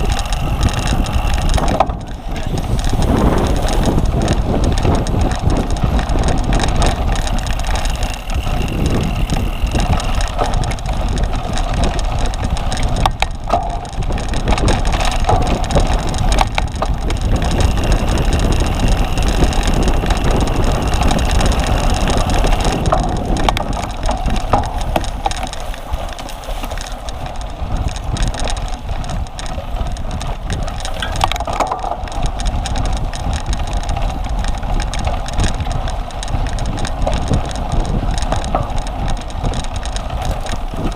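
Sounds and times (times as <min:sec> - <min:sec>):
bike rattling and knocking: 0:00.0 - 0:40.9
wind and tyre rumble: 0:00.0 - 0:40.9.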